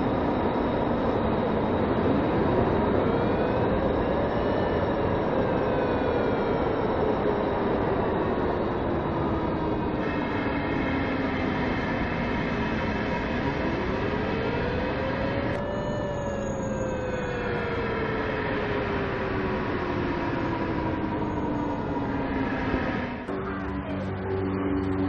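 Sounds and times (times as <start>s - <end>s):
engine-like rumbling drone with whine: 0.0s - 25.0s.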